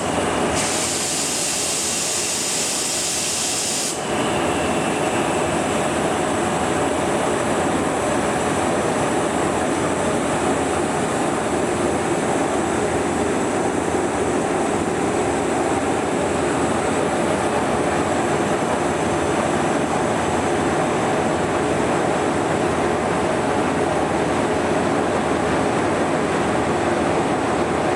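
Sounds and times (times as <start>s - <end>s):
diesel locomotive engine rumble: 0.0s - 27.9s.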